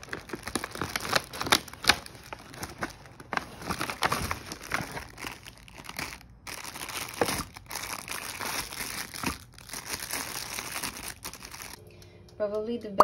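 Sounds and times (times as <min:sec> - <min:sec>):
plastic wrapping crinkling: 0:00.0 - 0:11.9.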